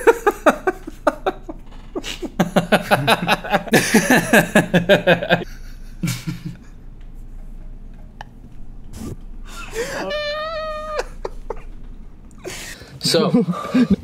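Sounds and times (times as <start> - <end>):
men laughing: 0.0 - 7.0, 9.5 - 14.0.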